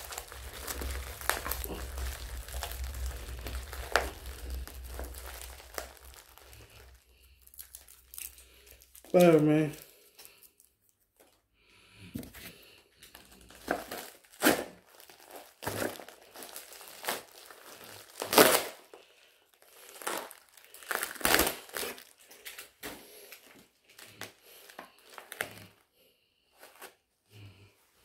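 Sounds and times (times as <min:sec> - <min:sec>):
packaging crinkling and tearing: 0:00.0 - 0:11.4, 0:12.4 - 0:25.8.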